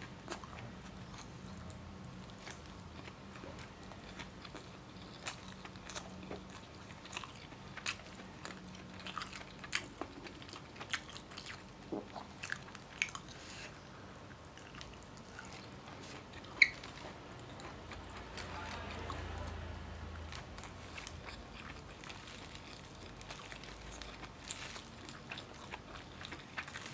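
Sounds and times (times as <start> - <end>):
person chewing food: 0.0 - 26.9.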